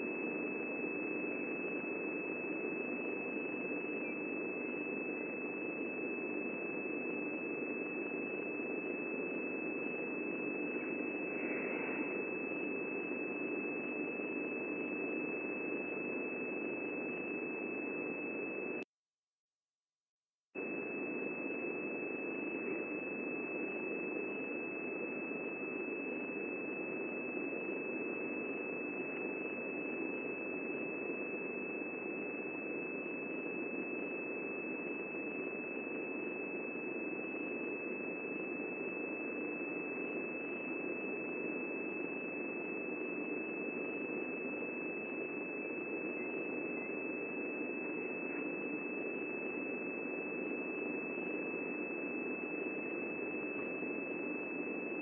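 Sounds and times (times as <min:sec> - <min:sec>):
steady high-pitched tone: 0:00.0 - 0:18.9, 0:20.6 - 0:55.0.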